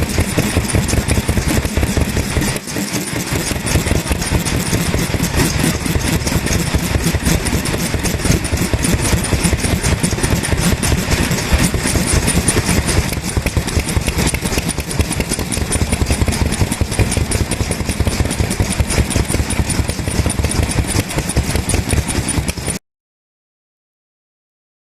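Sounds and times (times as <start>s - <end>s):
metallic ticking: 0.0s - 22.8s
stationary oil engine running: 0.0s - 22.8s.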